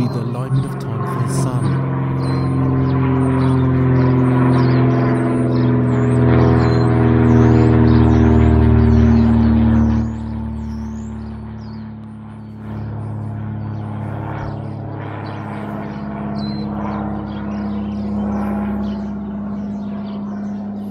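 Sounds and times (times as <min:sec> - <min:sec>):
propeller plane engine drone: 0:00.0 - 0:20.9
small birds chirping: 0:00.0 - 0:20.9.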